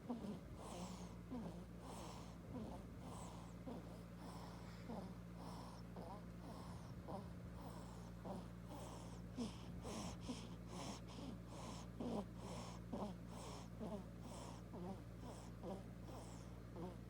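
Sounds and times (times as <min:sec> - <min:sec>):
faint snoring: 0:00.0 - 0:17.0
steady low hum: 0:00.0 - 0:17.0.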